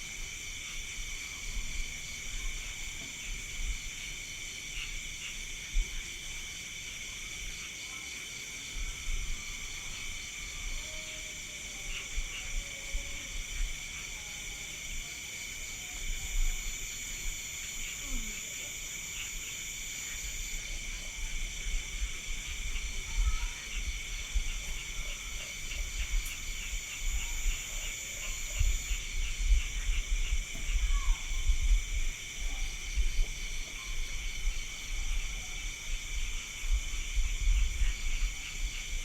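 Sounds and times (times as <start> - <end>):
crickets chirping: 0.0 - 39.0
fast pulsing insect trill: 0.0 - 39.0.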